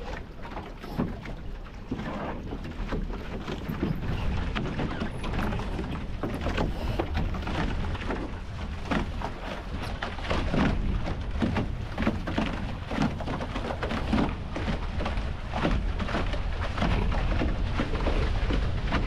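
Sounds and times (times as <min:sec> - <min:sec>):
water splashing against hull: 0:00.0 - 0:19.0
wind rumble on microphone: 0:00.0 - 0:19.0.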